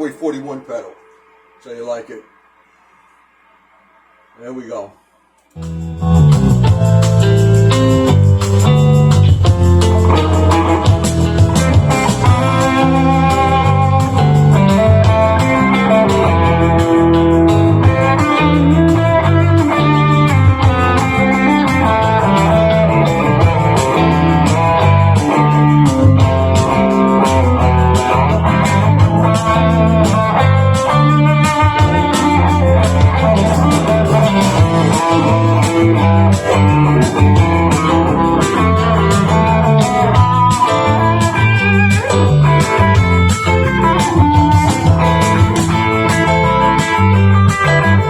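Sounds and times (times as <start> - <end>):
backing track with bass and drums: 5.5 - 48.0
distorted electric guitar lead: 5.5 - 48.0.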